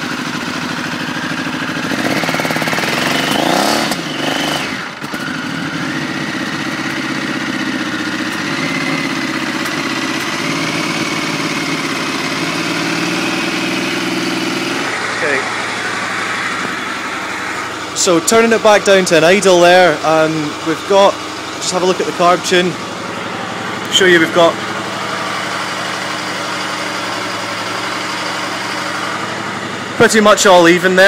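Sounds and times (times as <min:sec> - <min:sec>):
motorcycle engine revving and idling: 0:00.0 - 0:31.0.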